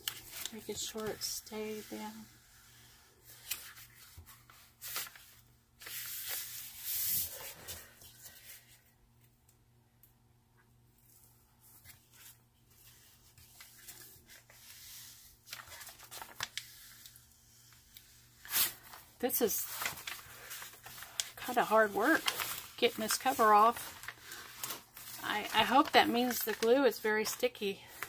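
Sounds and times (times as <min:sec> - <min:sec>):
plastic sheet rustling and crinkling: 0:00.0 - 0:02.5, 0:03.2 - 0:08.7, 0:11.0 - 0:17.8, 0:18.4 - 0:28.0.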